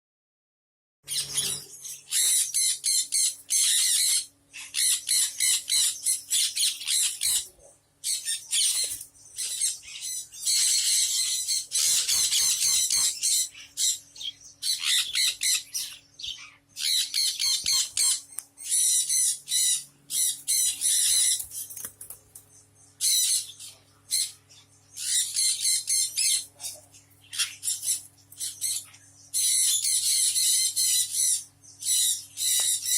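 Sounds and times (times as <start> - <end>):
parrots screeching: 1.1 - 21.7, 23.0 - 24.4, 25.0 - 32.9.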